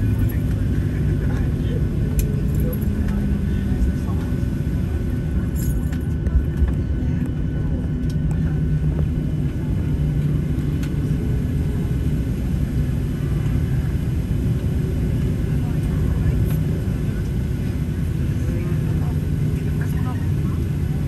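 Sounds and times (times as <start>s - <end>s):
jet engines idling rumble: 0.0s - 21.0s.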